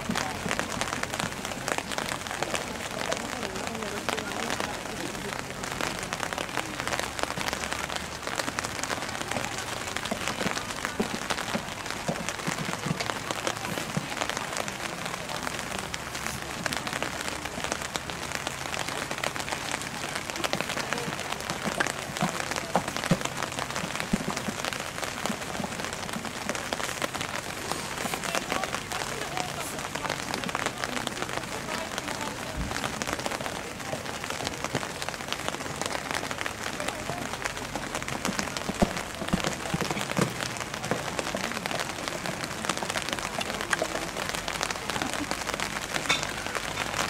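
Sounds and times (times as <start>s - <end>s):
rain pattering on an umbrella: 0.0s - 47.0s.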